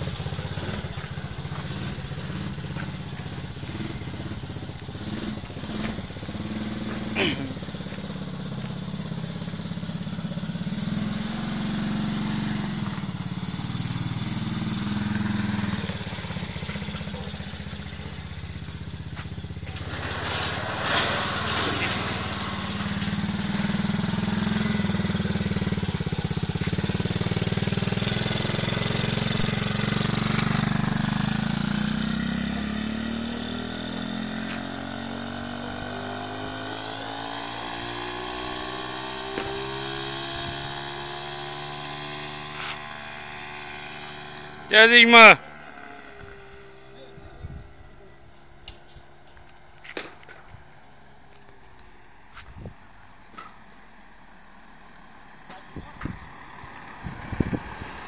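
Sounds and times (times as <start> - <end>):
go-kart engine running: 0.0 - 51.2, 53.0 - 58.0.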